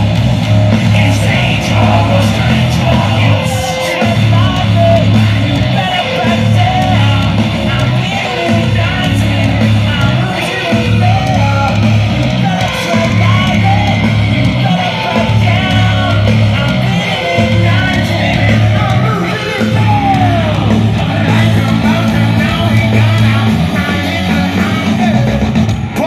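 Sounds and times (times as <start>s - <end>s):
rock band playing live: 0.0s - 26.0s
person singing: 0.8s - 26.0s.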